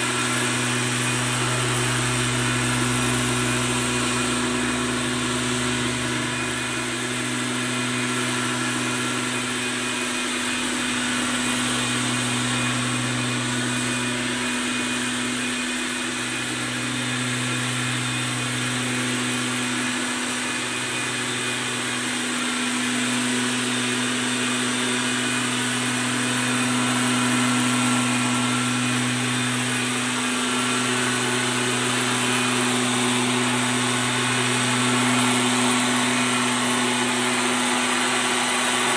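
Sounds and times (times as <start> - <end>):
leaf blower engine running: 0.0 - 38.9.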